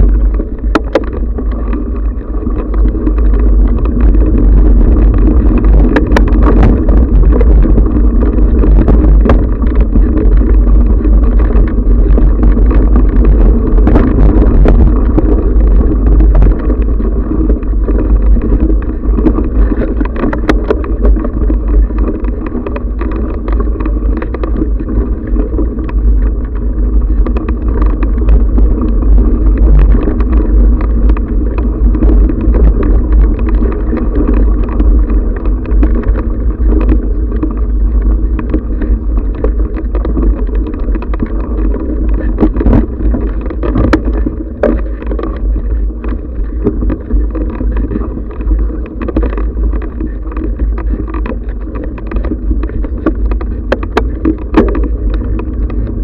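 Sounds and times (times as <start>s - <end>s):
bike rattling clicks and knocks: 0.0s - 56.0s
trail vibration rumble: 0.0s - 56.0s
wind rumble: 0.0s - 56.0s.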